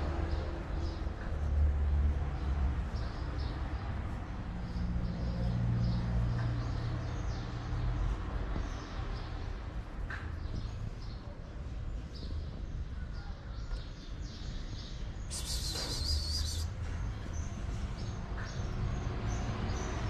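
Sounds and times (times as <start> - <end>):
low street rumble: 0.0 - 20.0
small birds chirping: 0.3 - 20.0.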